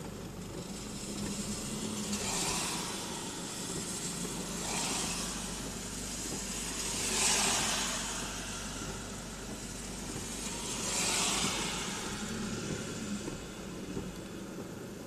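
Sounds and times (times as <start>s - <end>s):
low engine hum: 0.0s - 15.0s
rain and wet-road noise: 0.0s - 15.0s.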